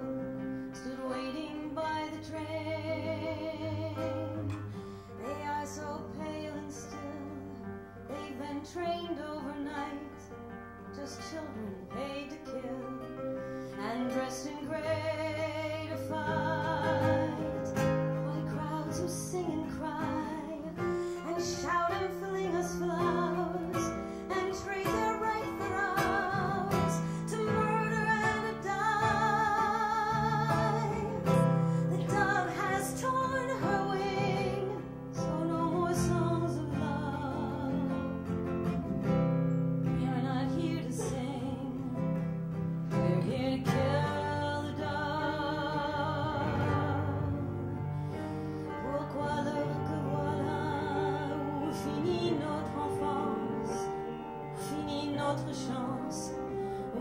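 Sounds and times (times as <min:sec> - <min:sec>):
woman singing a slow ballad: 0:00.0 - 0:57.0.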